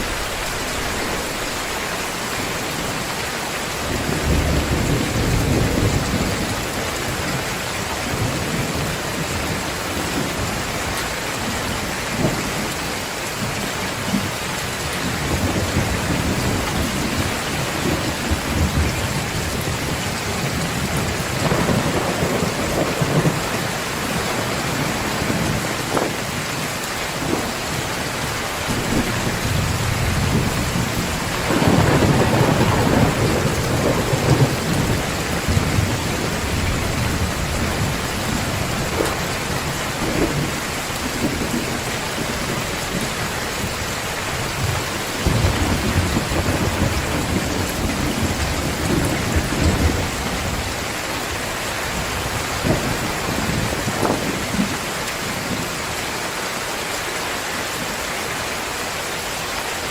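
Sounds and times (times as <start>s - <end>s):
low rolling thunder: 0.0s - 12.7s, 13.4s - 56.0s
heavy rain pouring: 0.0s - 59.9s.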